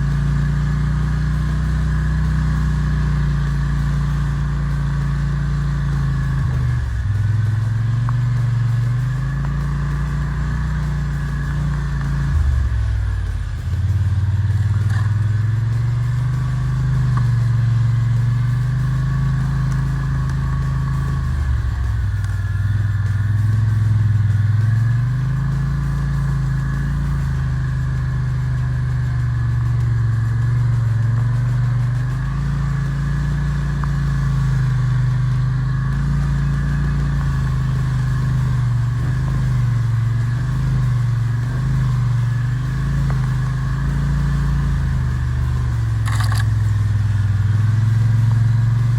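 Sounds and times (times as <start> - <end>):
atv engine running: 0.0 - 48.9
steady higher whine: 0.0 - 48.9.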